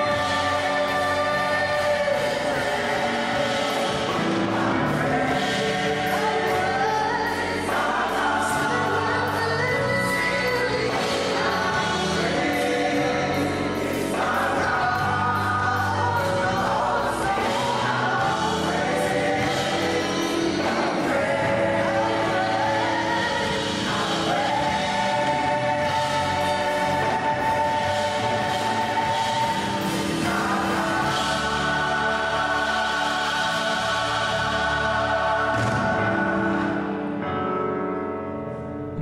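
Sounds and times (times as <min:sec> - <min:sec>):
drums: 0:00.0 - 0:37.3
gospel choir singing: 0:00.0 - 0:37.6
keyboard: 0:00.0 - 0:39.0.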